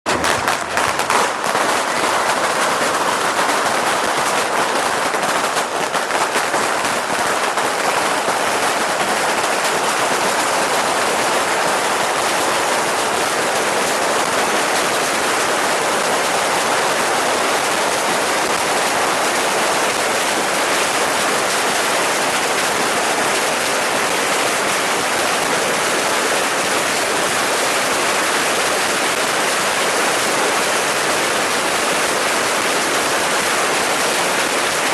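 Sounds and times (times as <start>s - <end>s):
rockets and firecrackers crackling: 0.0s - 34.9s
sharp firework bangs: 0.1s - 34.9s.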